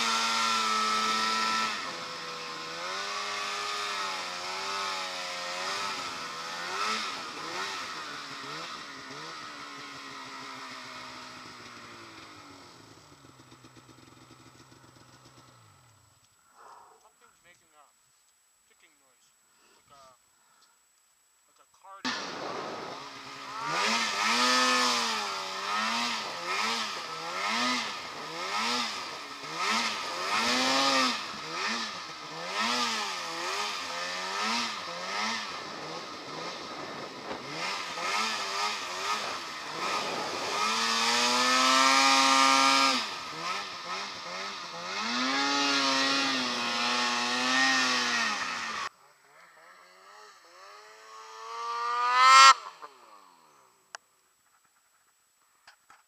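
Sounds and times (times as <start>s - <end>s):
snowmobile engine revving: 0.0s - 16.0s, 21.9s - 53.7s.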